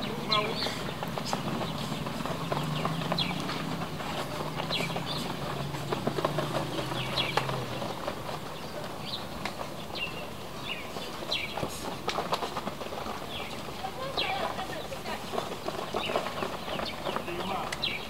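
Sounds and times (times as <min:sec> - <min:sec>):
running feet on dirt: 0:00.0 - 0:18.0.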